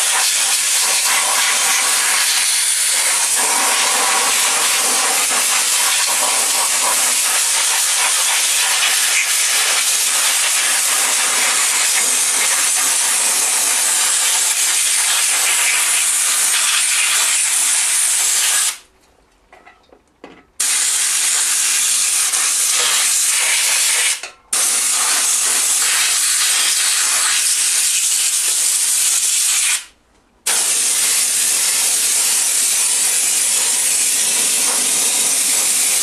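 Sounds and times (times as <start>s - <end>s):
spray gun hissing: 0.0s - 18.8s, 20.6s - 29.9s, 30.5s - 36.0s.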